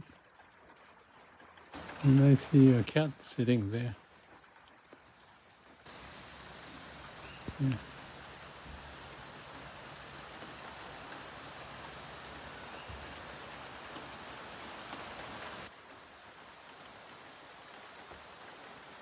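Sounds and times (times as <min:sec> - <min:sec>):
cricket chirping: 0:00.0 - 0:19.0
light rain falling: 0:00.2 - 0:19.0.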